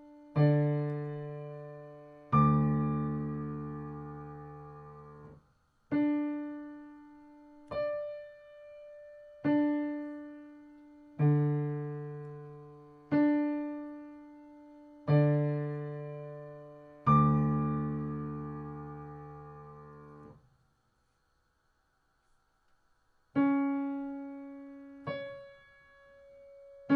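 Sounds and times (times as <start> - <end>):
piano keyboard notes and chords: 0.0 - 20.4, 23.4 - 26.9.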